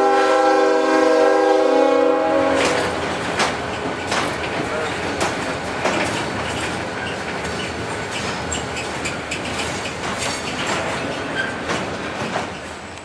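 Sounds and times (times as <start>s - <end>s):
freight train rumbling and rattling: 0.0s - 13.0s
wheels clacking over rails: 2.5s - 13.0s.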